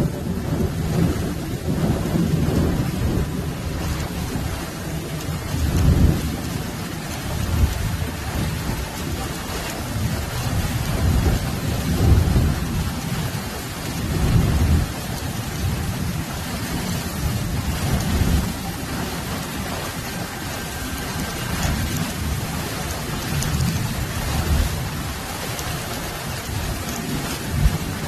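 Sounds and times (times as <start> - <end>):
heavy rain falling: 0.0 - 28.0
low thunder rumbles: 0.0 - 28.0.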